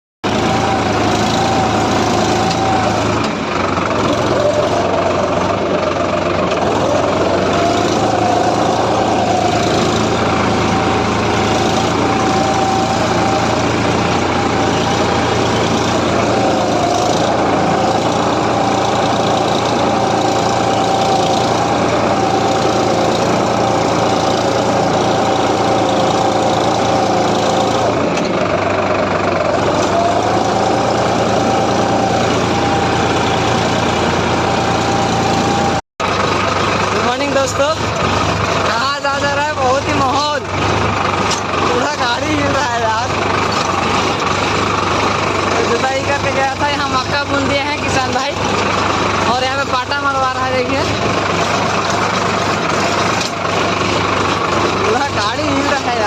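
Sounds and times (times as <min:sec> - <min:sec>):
tractor diesel engine under load: 0:00.2 - 0:56.0.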